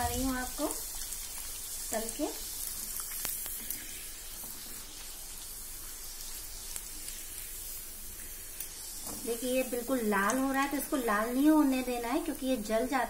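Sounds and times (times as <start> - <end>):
faint crackles: 0.0 - 12.7
food deep-frying in hot oil: 0.0 - 13.0.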